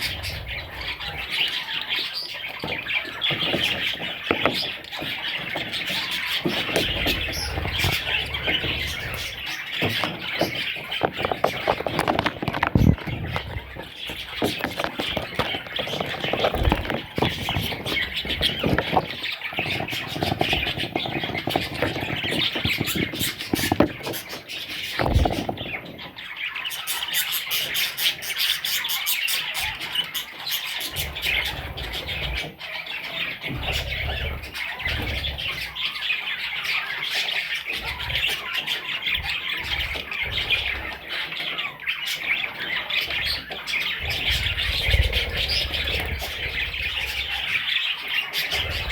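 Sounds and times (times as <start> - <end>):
parrots squawking: 0.0 - 48.9.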